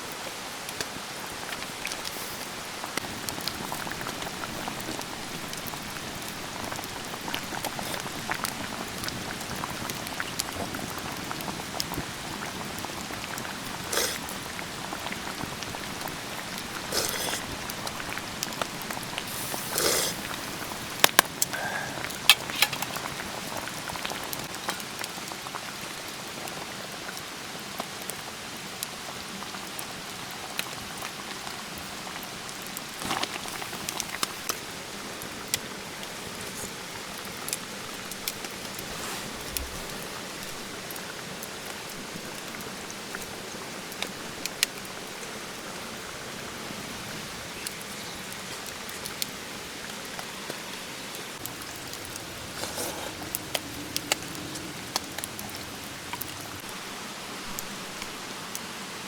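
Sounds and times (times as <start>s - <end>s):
rain drops ticking on a surface: 0.0s - 59.0s
rain rushes: 0.0s - 59.0s.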